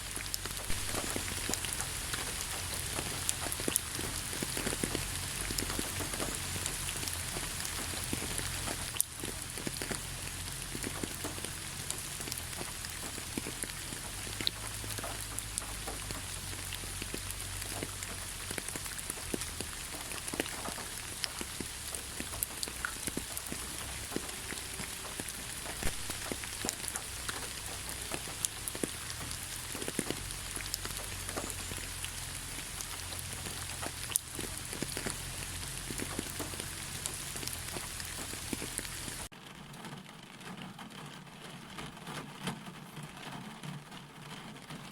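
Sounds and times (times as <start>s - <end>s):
rain drops ticking on surface: 0.0s - 44.9s.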